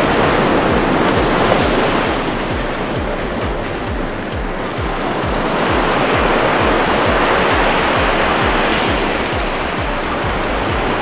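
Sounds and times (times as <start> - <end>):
music with bass beat: 0.0 - 11.0
ocean surf washing onto beach: 0.0 - 11.0.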